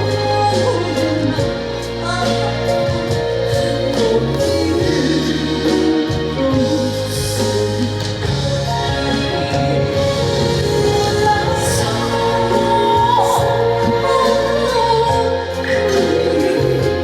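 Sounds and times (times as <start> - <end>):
live band accompaniment: 0.0 - 17.0
woman singing: 0.0 - 17.0.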